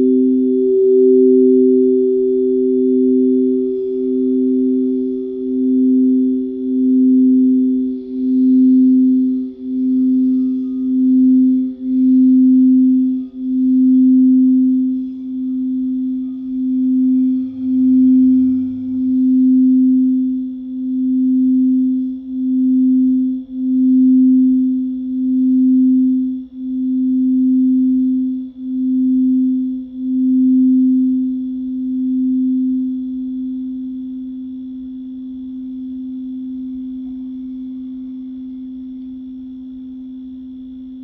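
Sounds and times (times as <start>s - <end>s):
singing bowl low note: 0.0s - 41.0s.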